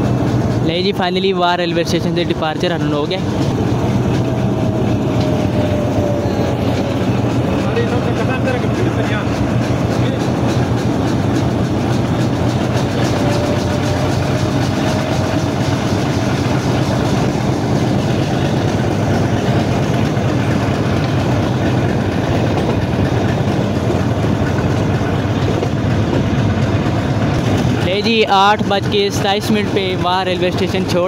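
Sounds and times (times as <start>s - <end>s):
train engine rumble: 0.0s - 31.0s.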